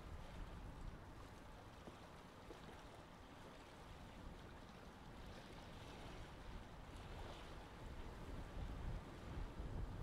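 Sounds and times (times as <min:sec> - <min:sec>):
choppy water: 0:00.0 - 0:10.0
wind: 0:00.0 - 0:10.0.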